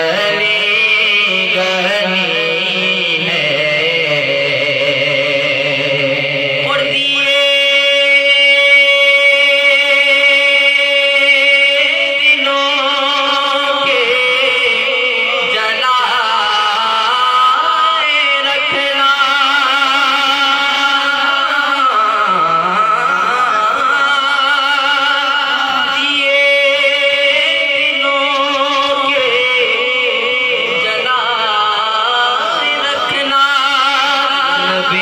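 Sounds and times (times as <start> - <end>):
person singing devotional melody: 0.0 - 35.0.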